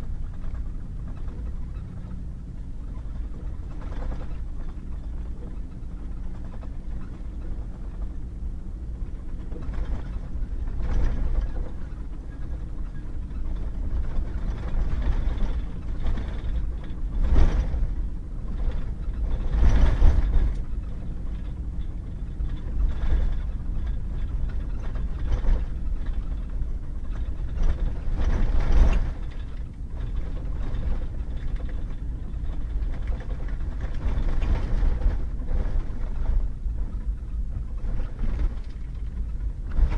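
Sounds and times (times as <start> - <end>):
truck engine and tyres rumbling: 0.0 - 39.9.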